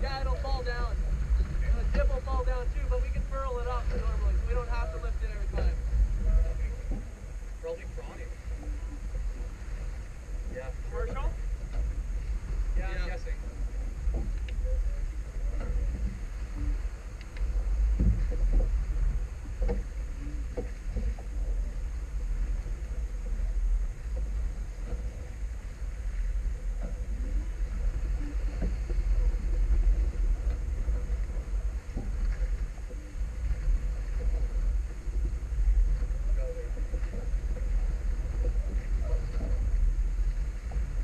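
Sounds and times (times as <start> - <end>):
water rushing along hull: 0.0 - 41.0
wind buffeting microphone: 0.0 - 41.0.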